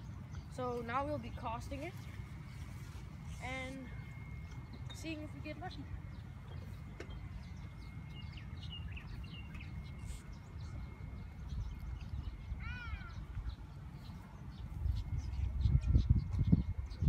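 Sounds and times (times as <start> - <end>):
birds chirping: 0.0 - 17.0
wind rumbling on microphone: 0.0 - 17.0.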